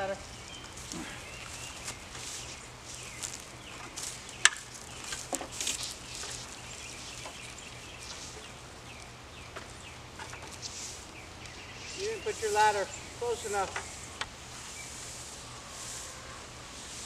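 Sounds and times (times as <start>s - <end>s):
netting rustling over pipe: 0.0s - 17.0s.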